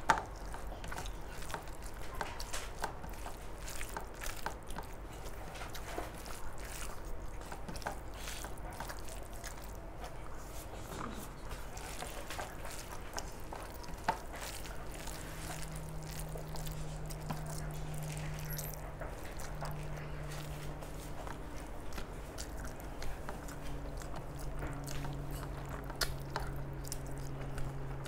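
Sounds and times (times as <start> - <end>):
steady low hum: 0.0 - 28.0
wet squishing of food being mixed: 0.0 - 28.0.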